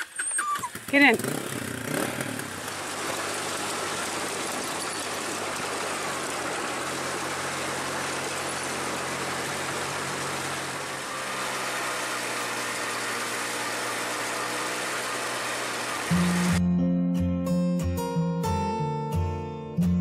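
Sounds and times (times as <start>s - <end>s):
motorcycle engine: 0.0s - 16.6s.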